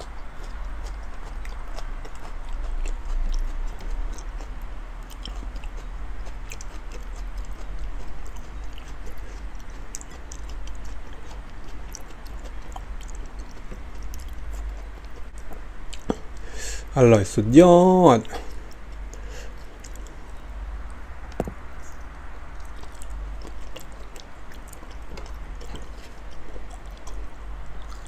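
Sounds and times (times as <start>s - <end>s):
wet chewing and biting: 0.0s - 16.5s, 18.2s - 28.0s
steady low hum: 0.0s - 28.0s.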